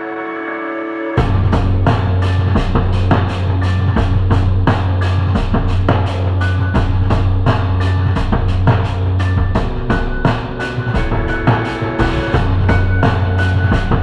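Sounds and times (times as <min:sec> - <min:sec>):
bass line: 0:01.2 - 0:14.0
steady drum beat: 0:01.2 - 0:14.0.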